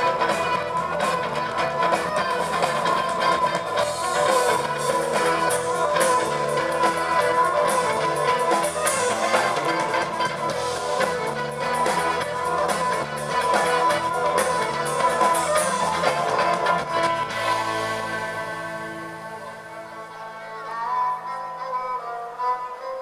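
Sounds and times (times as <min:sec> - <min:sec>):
live rock band: 0:00.0 - 0:23.0.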